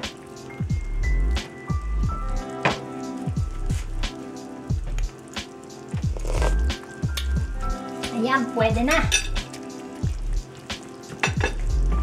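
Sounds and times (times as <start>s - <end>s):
background music with a beat: 0.0s - 12.0s.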